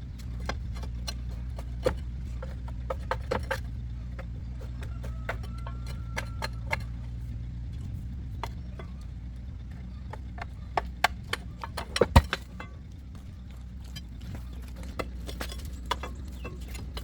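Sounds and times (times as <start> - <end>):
engine idling: 0.0 - 17.0
metallic knocks and clinks: 0.1 - 7.2, 9.8 - 17.0.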